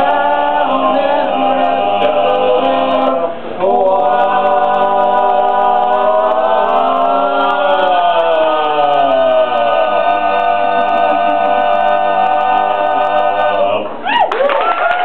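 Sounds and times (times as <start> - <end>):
male vocal quartet singing harmony: 0.0 - 14.0.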